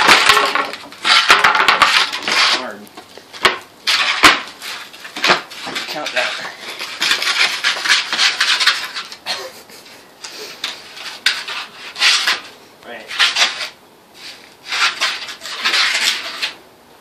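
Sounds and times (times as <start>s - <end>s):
skateboard scraping on concrete: 0.0s - 9.2s, 10.2s - 16.6s.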